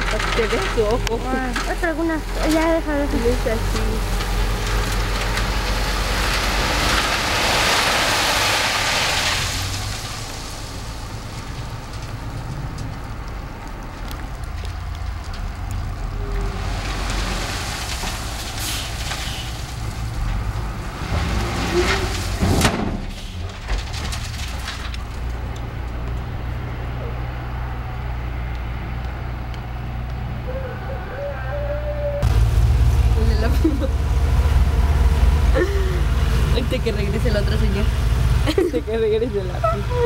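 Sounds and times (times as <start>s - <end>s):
dump truck engine running: 0.0s - 40.0s.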